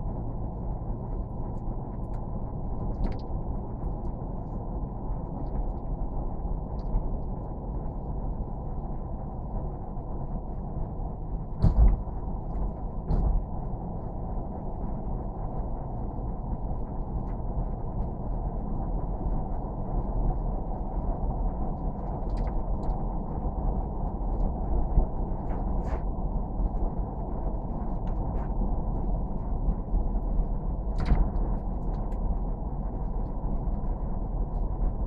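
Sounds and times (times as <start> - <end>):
vehicle rumbling in motion: 0.0 - 35.0.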